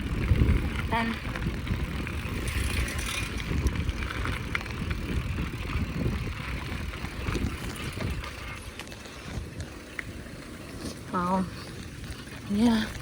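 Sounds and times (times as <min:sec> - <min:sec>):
bicycle tyre noise: 0:00.0 - 0:13.0
bike clicks and rattles: 0:00.0 - 0:13.0
wind rumbling on microphone: 0:00.0 - 0:13.0.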